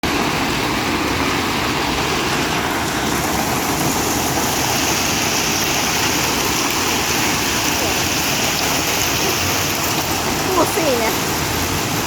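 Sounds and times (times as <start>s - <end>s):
hail and heavy rain: 0.0s - 12.0s.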